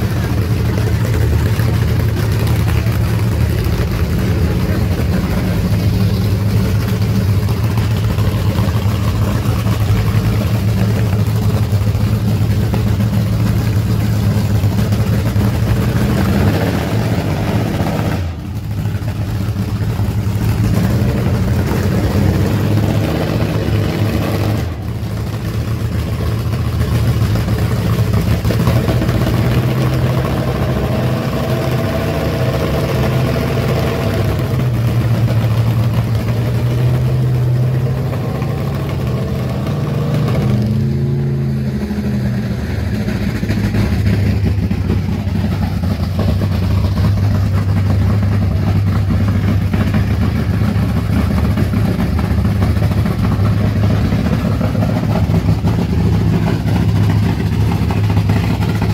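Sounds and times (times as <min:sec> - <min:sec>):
drag racing car engine revving: 0:00.0 - 0:58.9.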